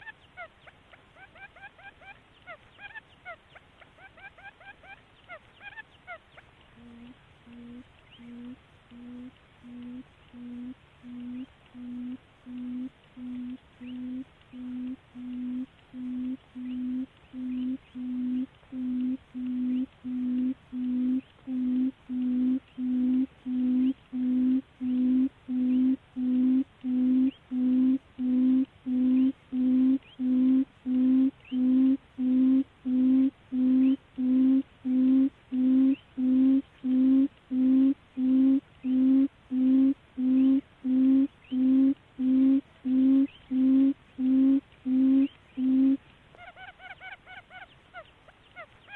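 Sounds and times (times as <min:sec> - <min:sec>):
bird low hooting call: 0:06.8 - 0:48.9.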